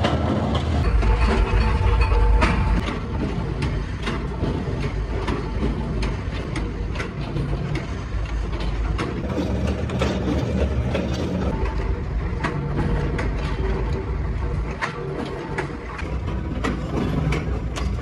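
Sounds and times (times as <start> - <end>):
metal clanks: 0.0 - 18.0
power press rumbling: 0.0 - 18.0.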